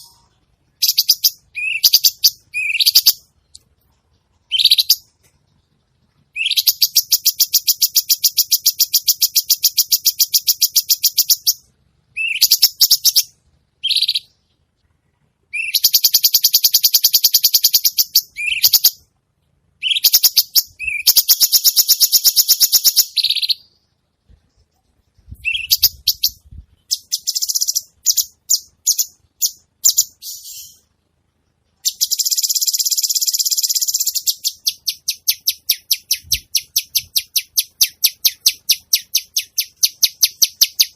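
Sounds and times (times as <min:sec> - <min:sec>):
sharp bird chirps: 0:00.0 - 0:14.6, 0:15.5 - 0:19.1, 0:19.8 - 0:30.9, 0:31.8 - 0:40.9
songbird rapid song: 0:00.0 - 0:19.1, 0:19.8 - 0:40.9.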